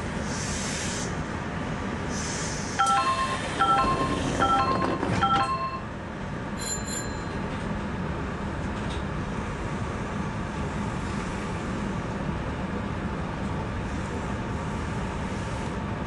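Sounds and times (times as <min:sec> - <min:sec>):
train rumble and motor hum: 0:00.0 - 0:16.0.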